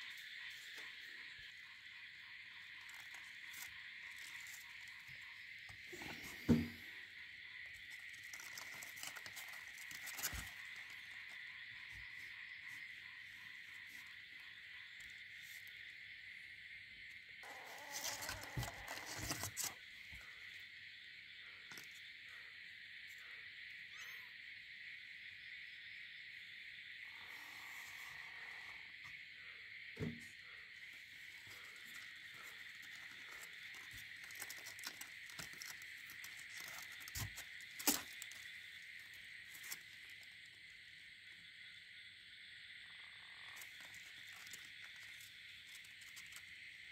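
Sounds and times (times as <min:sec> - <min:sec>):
high background hiss: 0:00.0 - 0:46.9.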